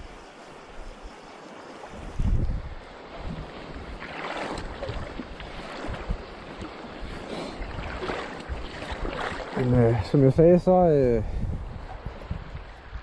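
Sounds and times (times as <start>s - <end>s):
sea water lapping and splashing: 0.0s - 13.0s
wind on microphone: 1.8s - 13.0s.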